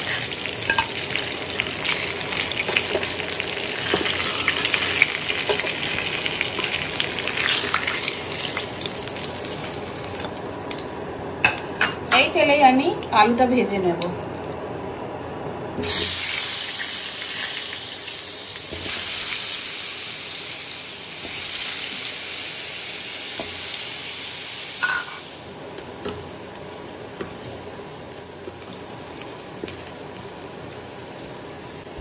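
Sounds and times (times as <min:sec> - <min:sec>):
potatoes sizzling in hot oil: 0:00.0 - 0:11.8, 0:15.8 - 0:32.0.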